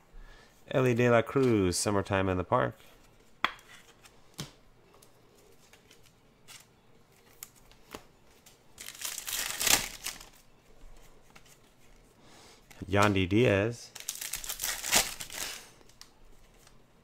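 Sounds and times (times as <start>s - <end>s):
cards crinkling and sliding: 3.1s - 16.9s.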